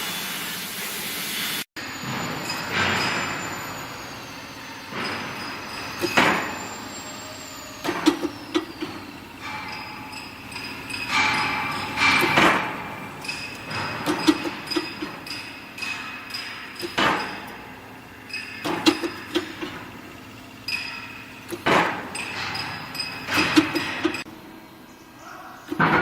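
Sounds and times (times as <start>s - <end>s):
machine grinding bursts: 0.0s - 24.3s
metallic knocks and clanks: 2.0s - 7.1s, 7.8s - 24.3s, 25.7s - 26.0s.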